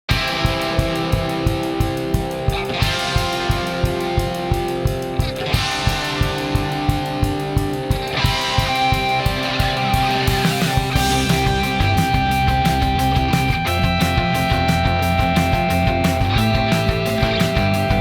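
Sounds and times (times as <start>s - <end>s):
drum beat: 0.1s - 18.0s
electric guitar: 0.1s - 18.0s.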